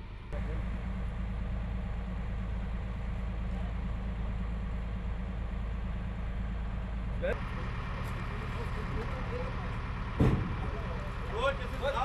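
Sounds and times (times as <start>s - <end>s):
large engine rumbling: 0.0s - 12.0s.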